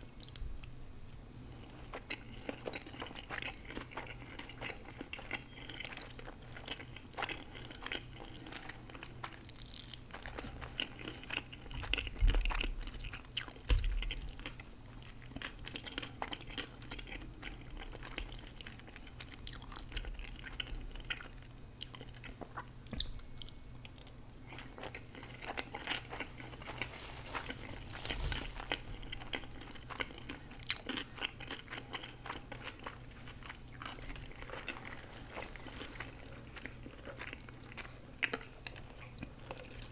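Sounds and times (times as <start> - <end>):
person chewing and crunching food: 0.2 - 39.9.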